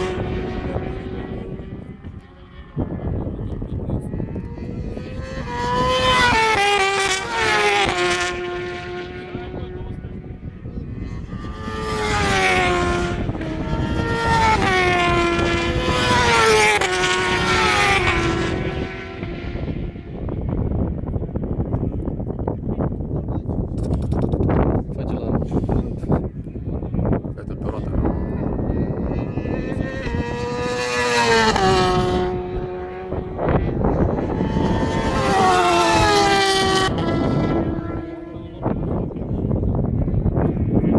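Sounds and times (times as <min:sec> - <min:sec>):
motorcycle engine revving high: 0:00.0 - 0:22.3, 0:25.6 - 0:40.9.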